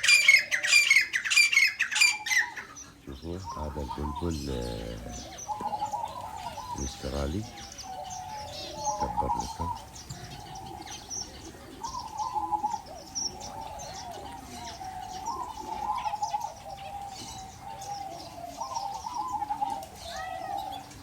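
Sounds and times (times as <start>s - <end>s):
birds warbling and cooing: 0.0s - 21.0s.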